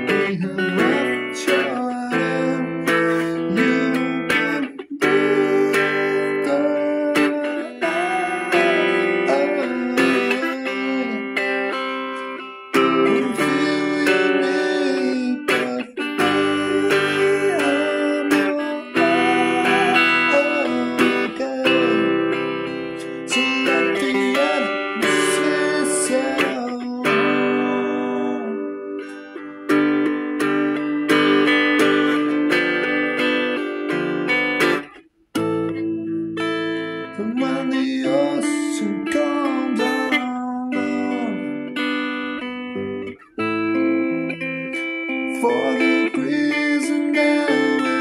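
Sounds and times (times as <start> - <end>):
man singing: 0.0 - 29.4, 36.7 - 48.0
electric guitar strumming chords: 0.0 - 48.0.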